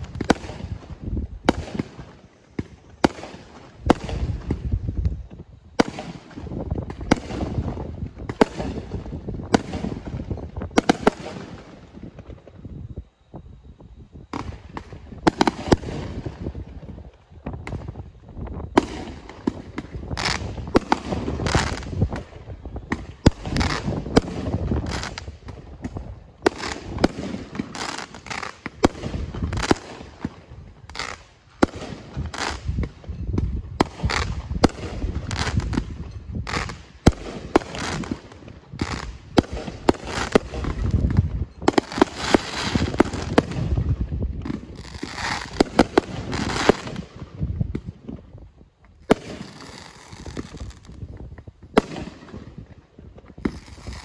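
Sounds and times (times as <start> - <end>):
fireworks bursting: 0.0 - 13.3, 14.2 - 54.0.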